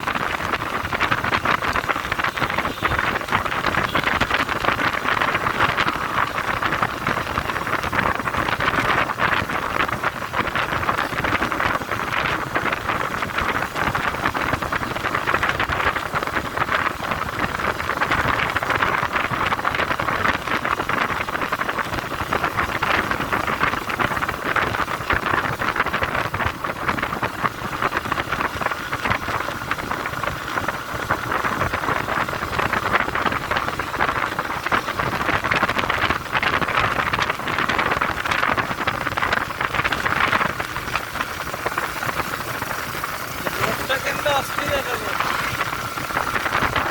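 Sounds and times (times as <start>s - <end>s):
vehicle moving along road: 0.0s - 46.9s
wind on microphone: 0.0s - 46.9s.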